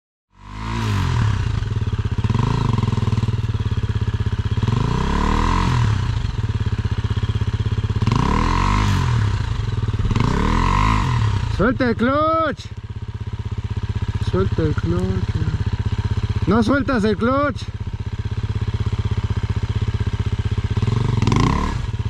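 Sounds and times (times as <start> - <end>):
dirt bike engine revving: 0.4 - 22.0.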